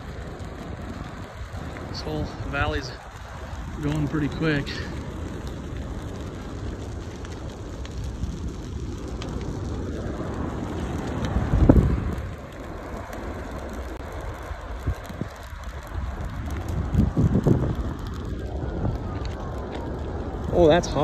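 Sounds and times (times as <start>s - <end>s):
wildfire crackling: 0.0s - 21.0s
wind rumbling on microphone: 0.0s - 21.0s.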